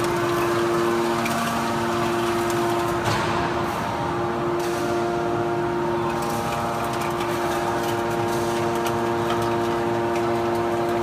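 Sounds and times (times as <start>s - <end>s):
hydraulic pump and motor hum: 0.0s - 11.0s.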